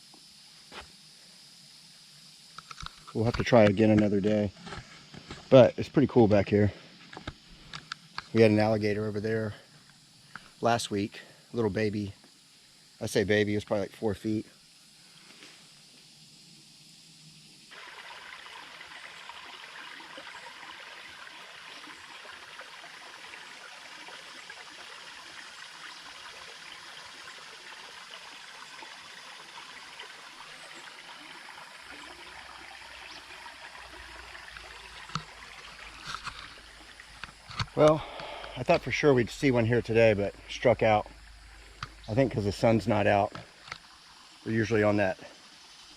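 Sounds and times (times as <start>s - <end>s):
creek water trickling: 1.8s - 45.9s.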